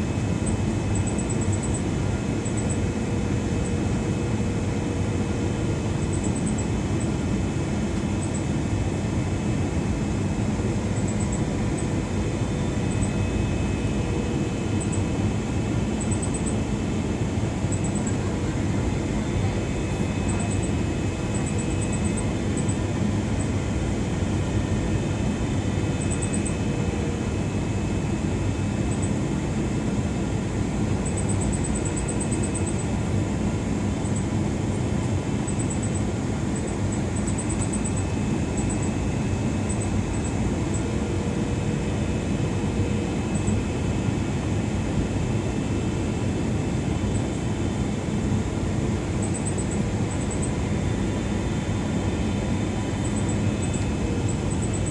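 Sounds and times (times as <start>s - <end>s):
jet engine cabin rumble: 0.0s - 54.9s.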